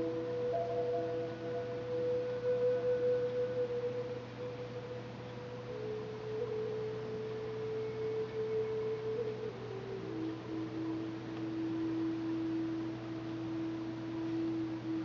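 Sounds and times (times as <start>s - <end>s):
meditative synth drone music: 0.0s - 15.0s.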